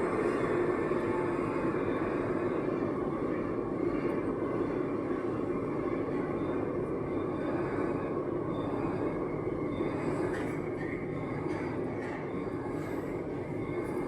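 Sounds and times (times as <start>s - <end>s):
metro train rumble: 0.0s - 14.0s.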